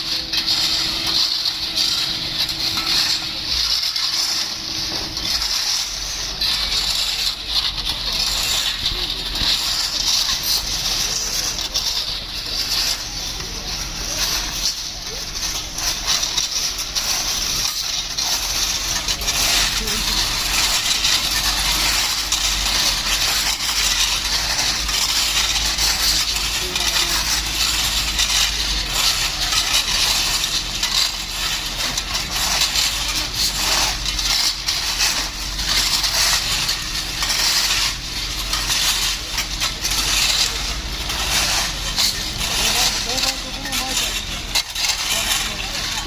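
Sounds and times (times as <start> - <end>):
rapid small impacts: 0.0 - 46.0
scraping and clattering: 0.0 - 46.0.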